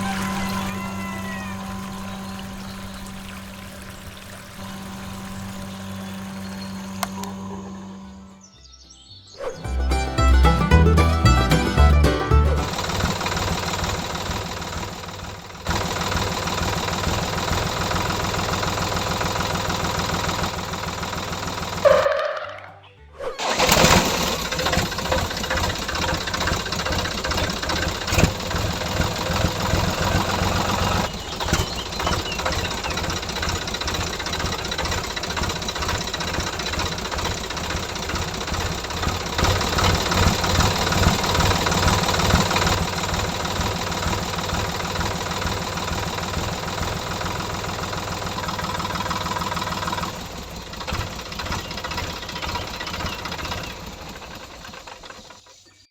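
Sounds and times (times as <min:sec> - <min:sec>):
small engine pulsing: 0:00.0 - 0:08.5, 0:09.4 - 0:55.9.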